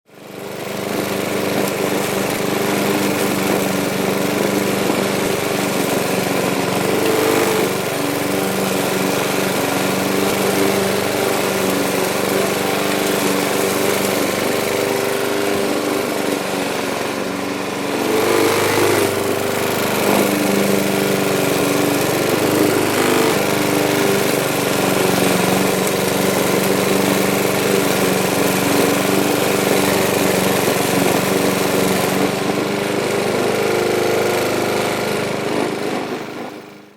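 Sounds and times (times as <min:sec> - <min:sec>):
petrol lawn mower cutting grass: 0:00.1 - 0:36.9.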